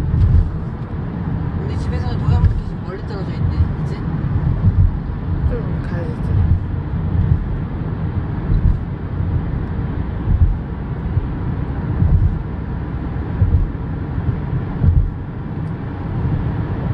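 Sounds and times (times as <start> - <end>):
car road noise rumble: 0.0 - 16.9.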